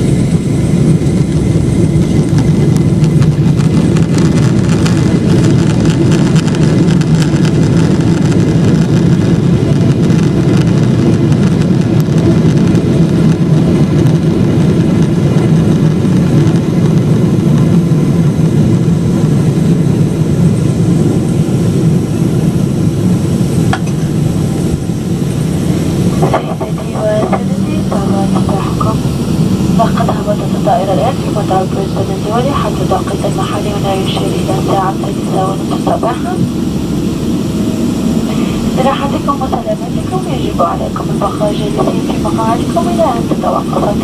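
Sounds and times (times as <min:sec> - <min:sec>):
airplane cabin rumble: 0:00.0 - 0:44.0.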